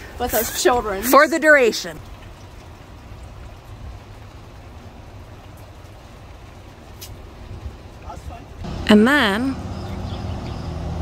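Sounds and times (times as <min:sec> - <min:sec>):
raindrops ticking: 0:00.0 - 0:10.0
steady rain falling: 0:00.0 - 0:11.0.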